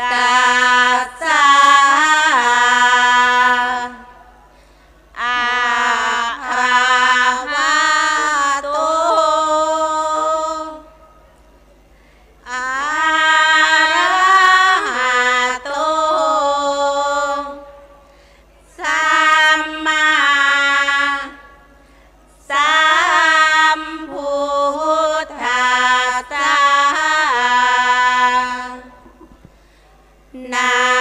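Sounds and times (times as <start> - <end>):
woman chanting unaccompanied: 0.0 - 4.2, 5.1 - 11.0, 12.4 - 17.8, 18.7 - 21.6, 22.4 - 29.0, 30.3 - 31.0.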